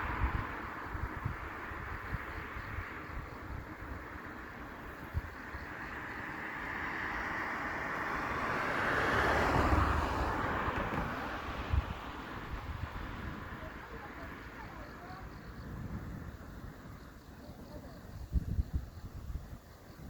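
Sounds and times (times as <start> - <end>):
vehicle road noise passing: 0.0 - 16.8.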